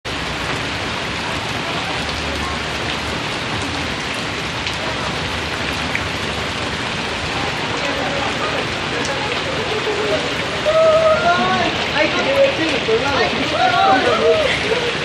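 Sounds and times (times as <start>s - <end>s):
raindrop hits: 0.0s - 15.0s
heavy rain hiss: 0.1s - 15.0s.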